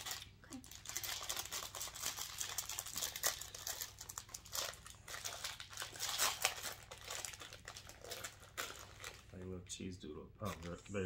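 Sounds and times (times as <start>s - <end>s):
plastic snack packet crinkling: 0.0s - 9.6s, 10.4s - 11.0s.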